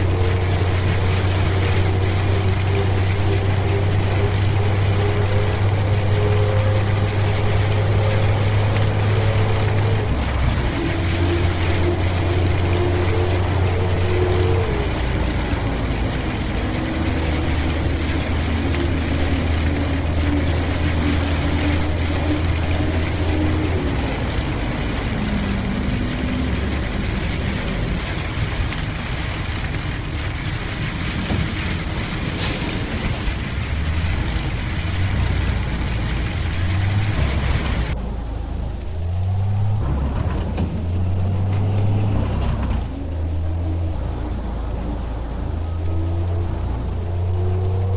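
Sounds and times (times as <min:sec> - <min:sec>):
road and rain noise: 0:00.0 - 0:47.9
vehicle engine hum: 0:00.0 - 0:47.9.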